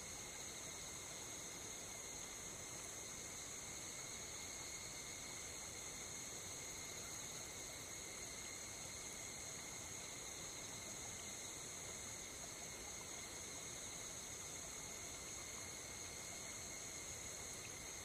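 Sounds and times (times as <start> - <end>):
low hiss: 0.0 - 18.0
night insects trilling: 0.0 - 18.0.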